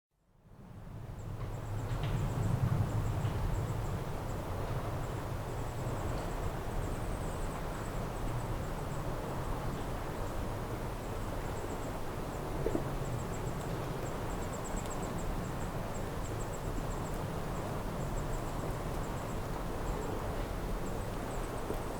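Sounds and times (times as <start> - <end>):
steady breeze: 0.3 - 21.9.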